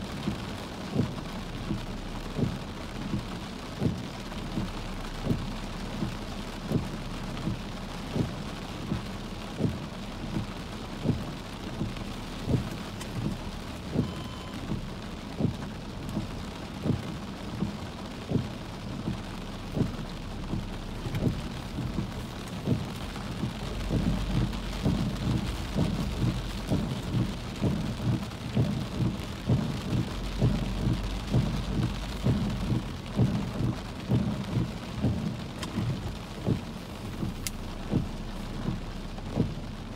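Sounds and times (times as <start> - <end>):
heavy rain on a car roof: 0.0 - 39.9
raindrops tapping on roof and glass: 0.0 - 39.9.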